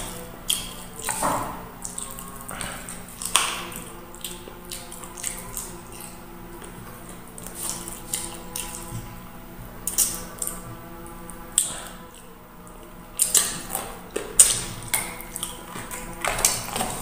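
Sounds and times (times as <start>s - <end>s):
wet chewing and lip smacking: 0.0s - 1.2s, 1.8s - 9.2s, 9.8s - 17.0s.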